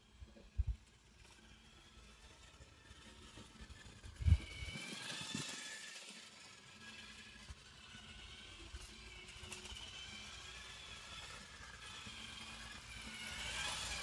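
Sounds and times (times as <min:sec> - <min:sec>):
toy motorcycle motor whining: 0:00.0 - 0:14.0.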